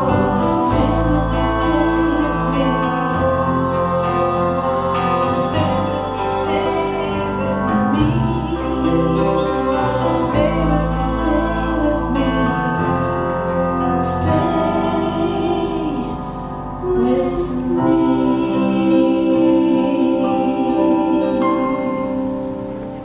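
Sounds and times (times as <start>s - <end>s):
person singing: 0.0s - 22.4s
electric guitars: 0.0s - 23.0s
keyboard: 0.0s - 23.0s.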